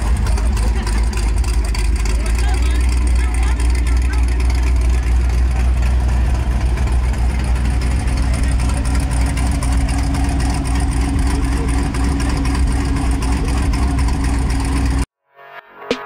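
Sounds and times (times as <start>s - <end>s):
car engine running: 0.0s - 15.1s.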